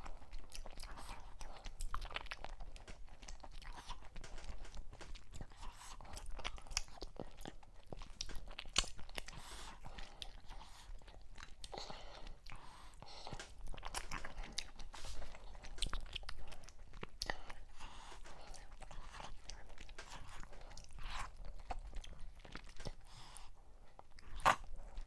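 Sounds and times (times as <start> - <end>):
chewing and mouth smacks: 0.0 - 25.0.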